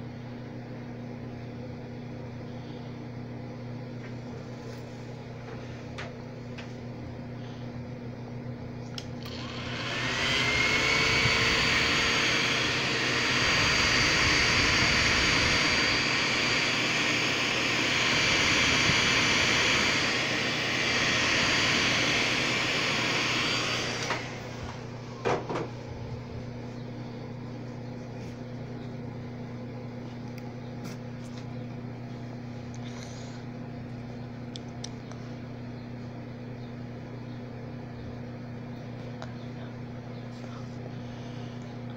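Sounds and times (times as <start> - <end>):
hot-air blower whining: 0.0 - 37.3, 37.9 - 41.9.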